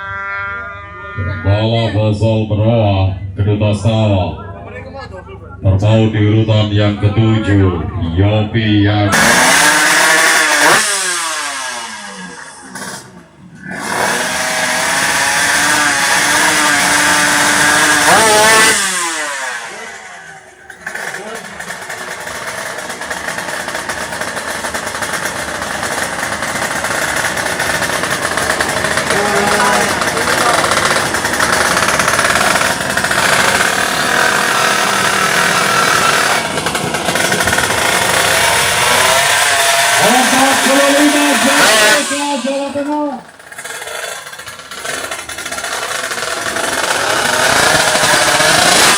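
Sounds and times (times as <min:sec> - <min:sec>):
motorcycle engine revving high: 0:00.0 - 0:04.8, 0:05.6 - 0:48.9.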